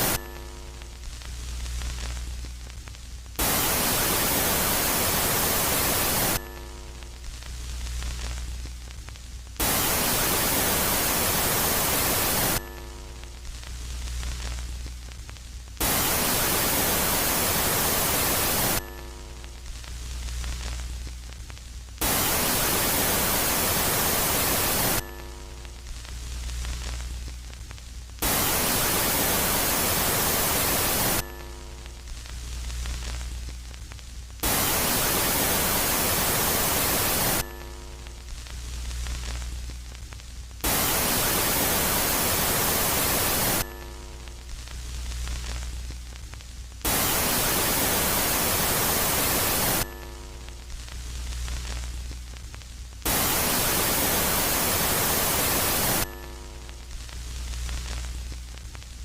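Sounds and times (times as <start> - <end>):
electronic static hiss: 0.0 - 59.0.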